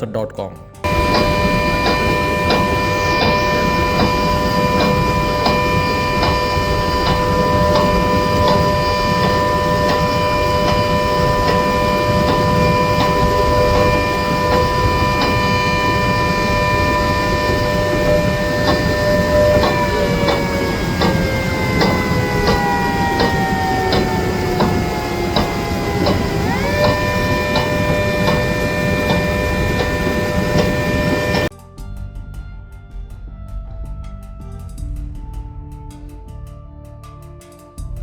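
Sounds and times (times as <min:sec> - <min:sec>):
low rushing noise: 0:00.8 - 0:31.5
machine whine: 0:00.8 - 0:31.8.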